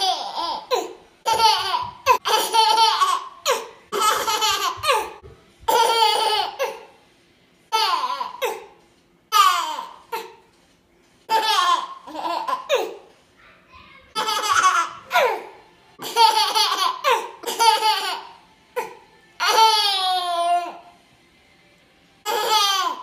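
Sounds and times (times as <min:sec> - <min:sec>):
toddler laughing: 0:00.0 - 0:06.9, 0:07.7 - 0:08.7, 0:09.3 - 0:10.4, 0:11.3 - 0:13.1, 0:13.8 - 0:20.9, 0:22.3 - 0:23.0.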